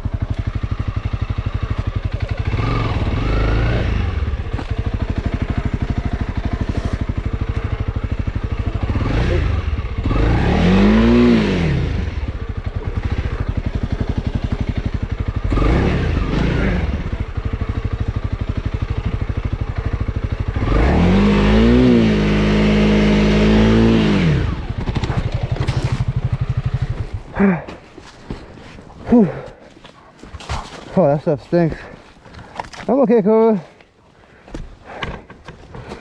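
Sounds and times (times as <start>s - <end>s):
motorcycle engine revving: 0.0s - 29.6s.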